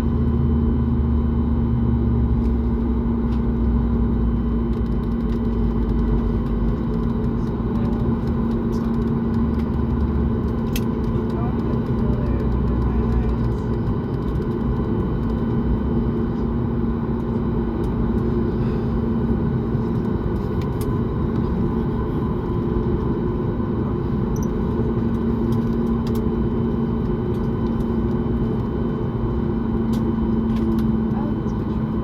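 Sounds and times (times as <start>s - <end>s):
airliner cabin hum: 0.0s - 32.0s.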